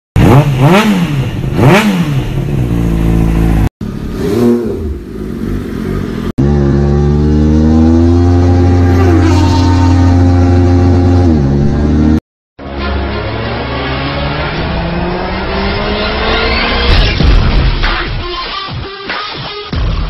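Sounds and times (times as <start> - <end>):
motorcycle engine revving: 0.2 - 17.2.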